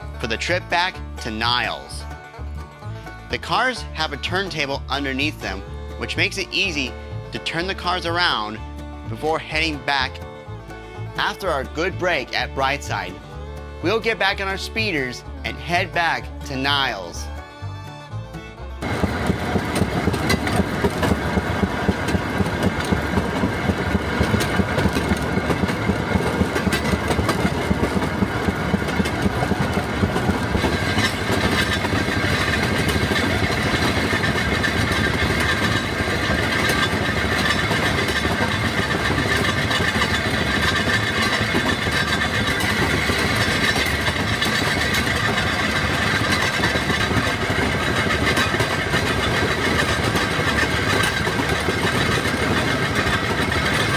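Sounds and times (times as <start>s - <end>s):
small engine of rail motorcar: 0.0s - 17.5s, 18.8s - 53.9s.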